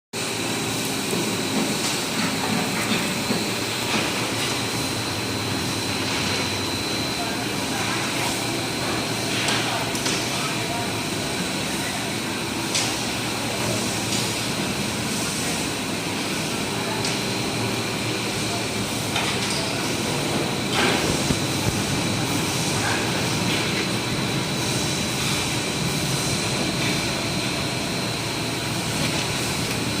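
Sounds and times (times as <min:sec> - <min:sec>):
machine running: 0:00.2 - 0:30.0.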